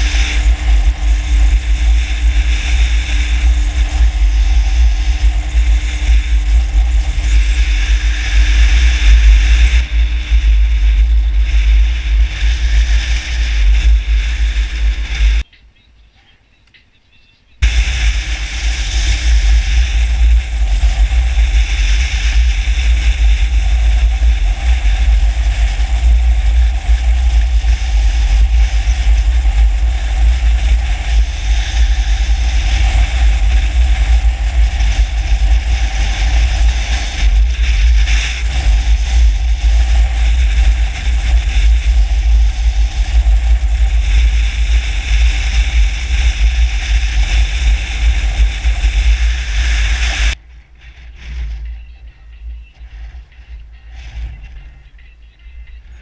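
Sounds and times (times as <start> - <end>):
motorcycle engine running: 0.0 - 15.6, 17.6 - 56.0
wind buffeting microphone: 0.0 - 16.4, 17.6 - 56.0.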